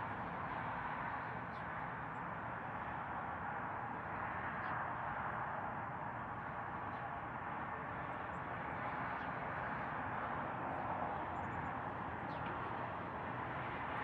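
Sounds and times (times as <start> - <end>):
distant road traffic hum: 0.0 - 14.0.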